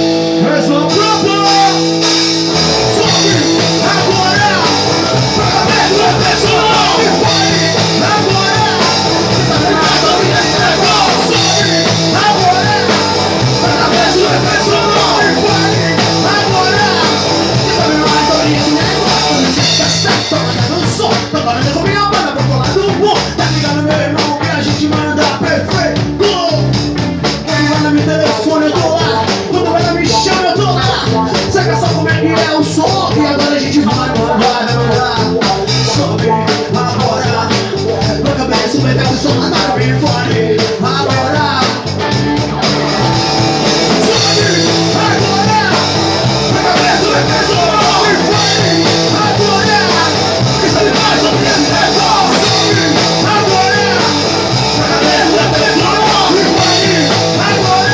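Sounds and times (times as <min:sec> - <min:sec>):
bass guitar: 0:00.0 - 0:57.9
drum kit: 0:00.0 - 0:57.9
electric guitar: 0:00.0 - 0:57.9.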